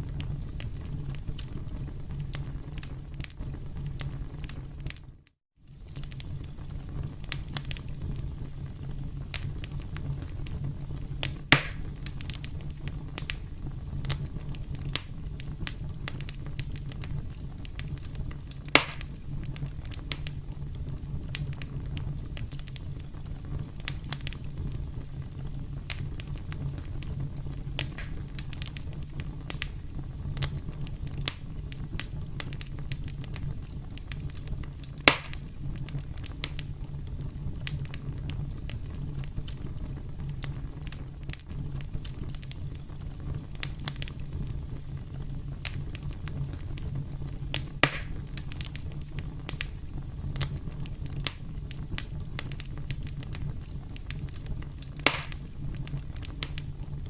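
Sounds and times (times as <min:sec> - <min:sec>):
campfire crackling: 0:00.0 - 0:57.0
campfire low rumble: 0:00.0 - 0:57.0
campfire pops: 0:00.0 - 0:57.0.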